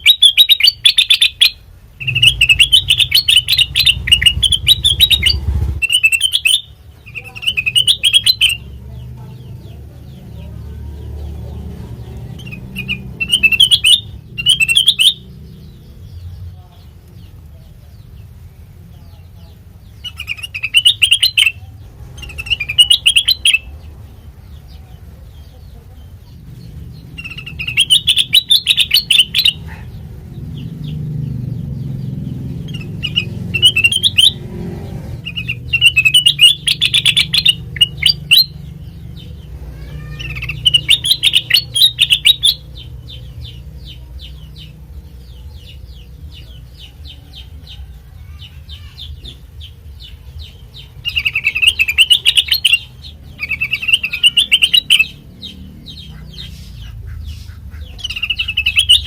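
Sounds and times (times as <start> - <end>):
bulbul chirping: 0.0 - 8.8, 11.3 - 17.4, 19.8 - 23.9, 26.2 - 30.0, 30.6 - 47.5, 48.8 - 59.0.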